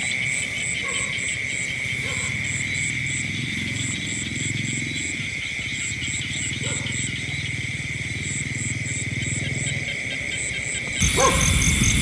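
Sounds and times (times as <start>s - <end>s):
chirping insects: 0.0s - 12.0s
frogs croaking: 0.0s - 12.0s
insects trilling: 0.0s - 12.0s.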